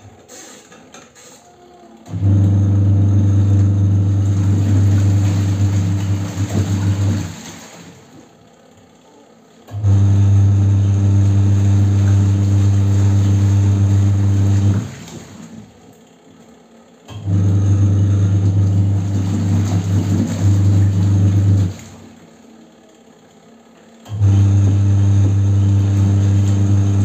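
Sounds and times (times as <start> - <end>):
washing machine motor humming: 0.0 - 27.0.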